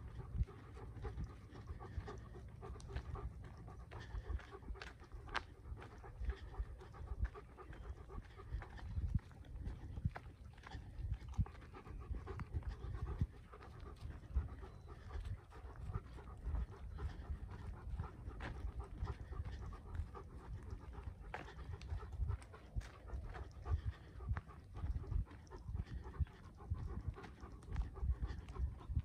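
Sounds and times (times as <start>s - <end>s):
dog panting: 0.0s - 29.0s
low rumble on microphone: 0.0s - 29.0s.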